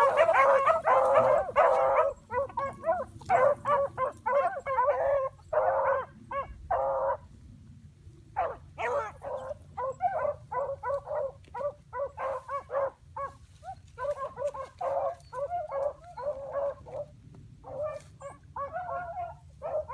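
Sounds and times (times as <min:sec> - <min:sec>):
dogs barking and yelping: 0:00.0 - 0:07.3, 0:08.3 - 0:19.9.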